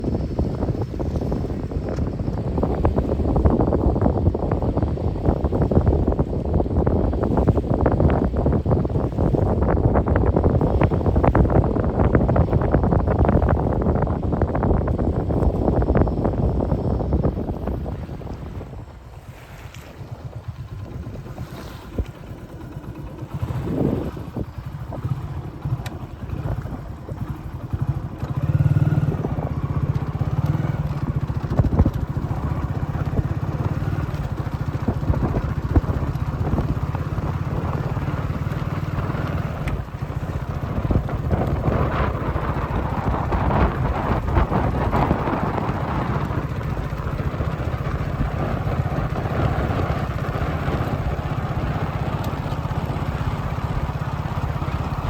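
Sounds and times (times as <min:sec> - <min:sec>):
engine with pulsing rumble: 0:00.0 - 0:55.0.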